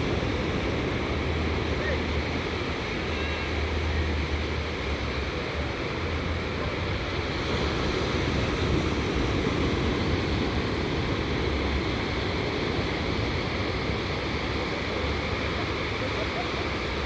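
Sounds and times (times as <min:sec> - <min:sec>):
gentle surf on beach: 0:00.0 - 0:17.0.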